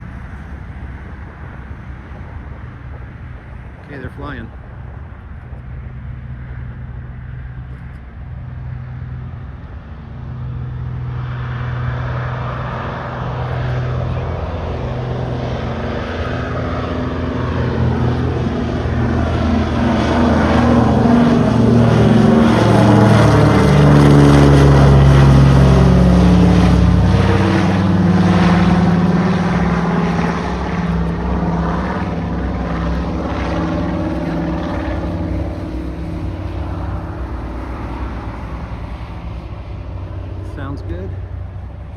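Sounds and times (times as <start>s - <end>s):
propeller plane flying by: 0.0s - 41.9s.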